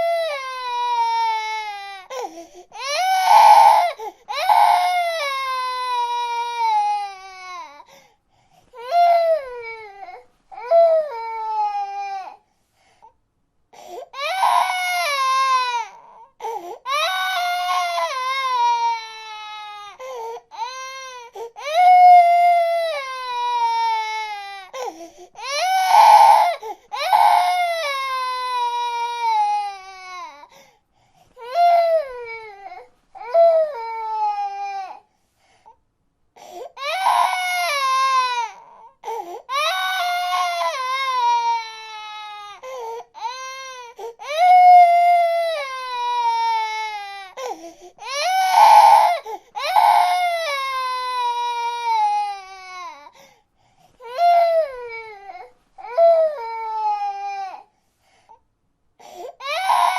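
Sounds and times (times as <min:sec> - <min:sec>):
baby crying: 0:00.0 - 0:07.9, 0:08.8 - 0:12.4, 0:14.1 - 0:30.6, 0:31.4 - 0:35.1, 0:36.5 - 0:53.2, 0:54.0 - 0:57.7, 0:59.0 - 0:59.9.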